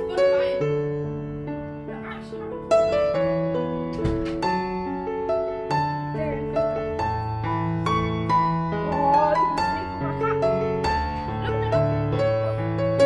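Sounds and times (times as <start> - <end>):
piano melody over bass: 0.0 - 13.0.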